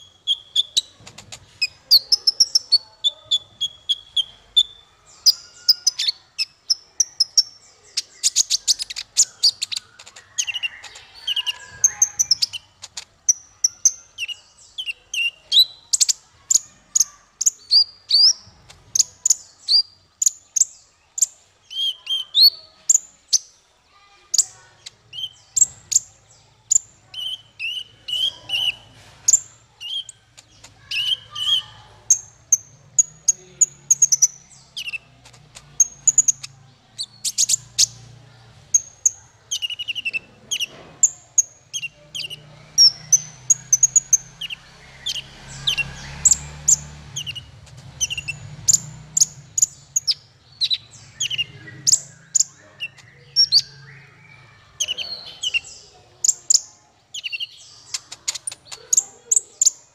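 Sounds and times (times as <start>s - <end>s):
small bird singing high chirps: 0.0s - 59.9s.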